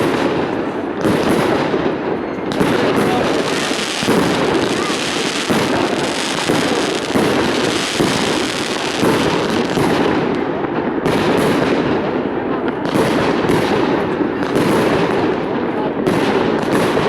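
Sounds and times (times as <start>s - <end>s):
fireworks banging and crackling: 0.0s - 17.0s.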